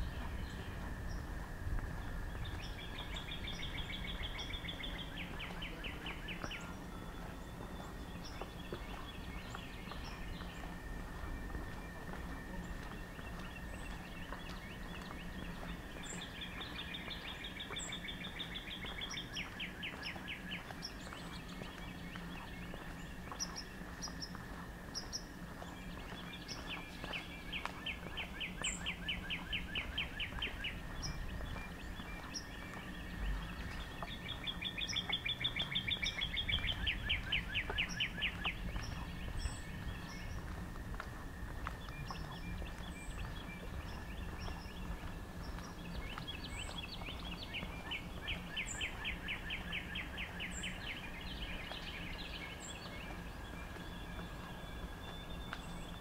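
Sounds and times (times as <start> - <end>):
birds chipping: 0.0 - 56.0
songbird trilling: 2.0 - 56.0.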